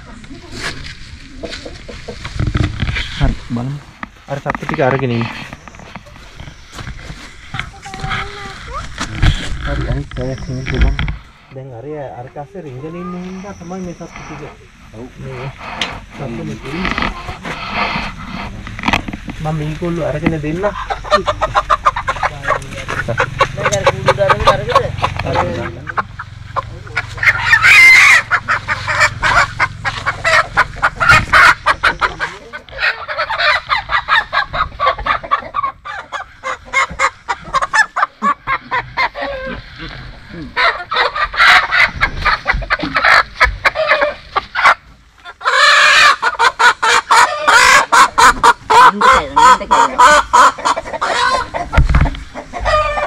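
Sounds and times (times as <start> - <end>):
hens cackling and squawking: 0.0 - 53.0.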